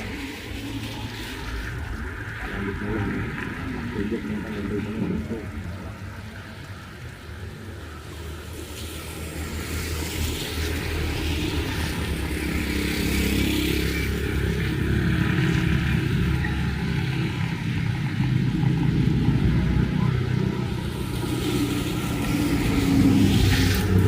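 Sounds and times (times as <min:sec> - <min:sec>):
heavy rain hiss: 0:00.0 - 0:24.0.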